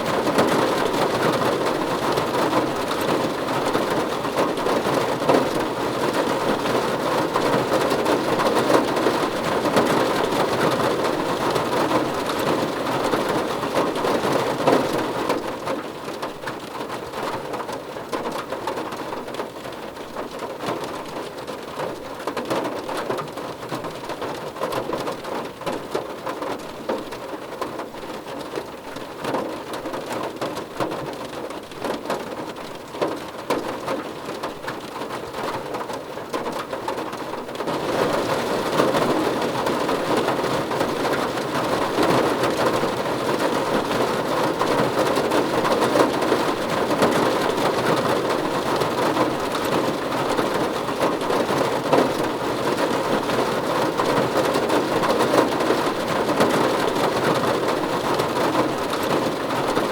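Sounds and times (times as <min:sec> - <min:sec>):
rain on a car roof: 0:00.0 - 0:59.9.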